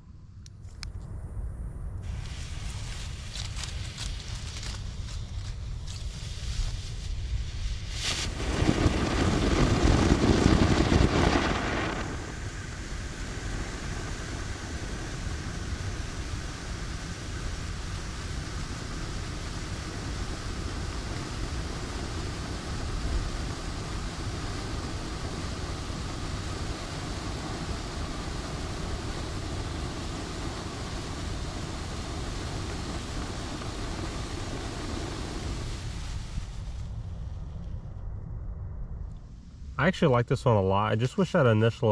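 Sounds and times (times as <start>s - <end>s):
firework fountain rushing spray: 2.0s - 37.2s
firework crack: 2.0s - 37.7s.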